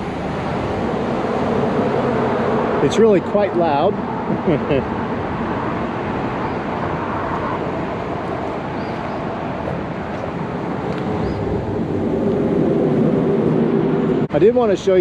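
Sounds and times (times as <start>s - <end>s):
vehicle engine hum: 0.0s - 14.3s
highway traffic noise: 0.0s - 15.0s.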